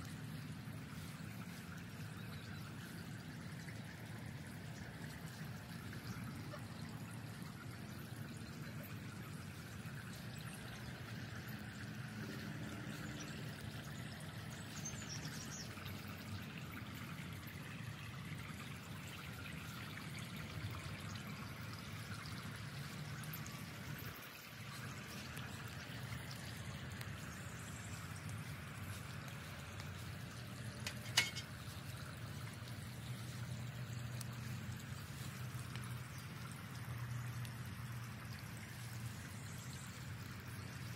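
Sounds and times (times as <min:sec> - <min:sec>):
fountain water trickling and splashing: 0:00.0 - 0:40.9.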